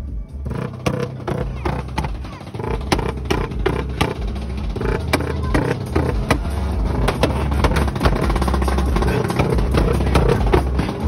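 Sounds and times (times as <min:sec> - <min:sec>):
music playing: 0:00.0 - 0:11.0
motorcycle engine revving: 0:00.1 - 0:11.0.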